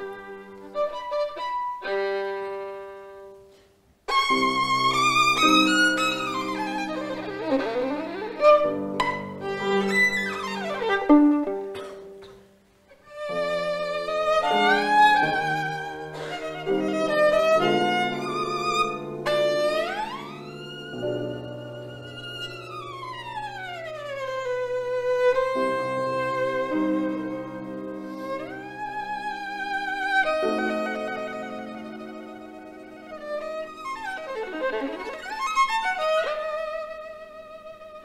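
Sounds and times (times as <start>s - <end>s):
violin melody with vibrato: 0.0s - 3.3s, 4.1s - 11.8s, 12.9s - 38.0s.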